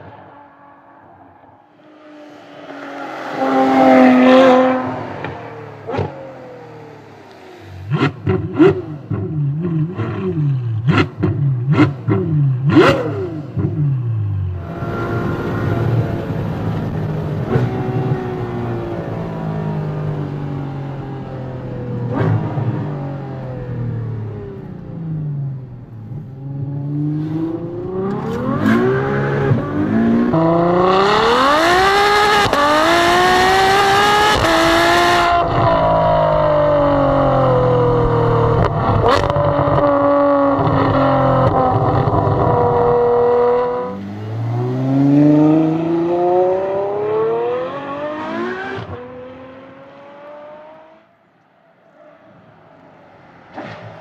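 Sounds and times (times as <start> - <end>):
sports car engine accelerating: 0.0 - 54.0.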